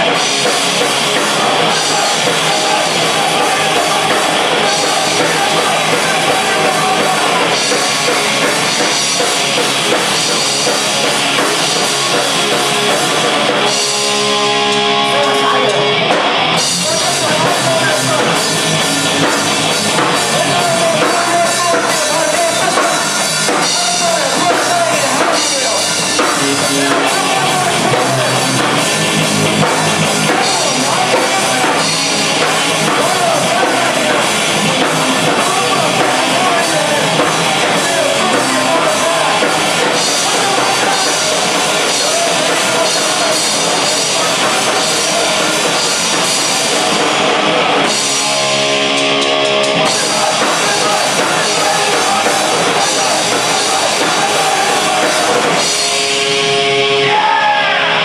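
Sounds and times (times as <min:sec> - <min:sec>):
vocals: 0:00.0 - 0:48.5, 0:49.5 - 0:58.0
punk rock band playing: 0:00.0 - 0:58.0.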